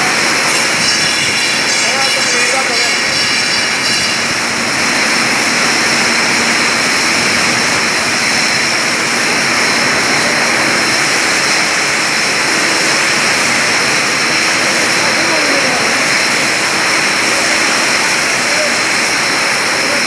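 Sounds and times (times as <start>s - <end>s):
bottling line machinery roar: 0.0s - 20.0s
high whining machine tones: 0.0s - 20.0s.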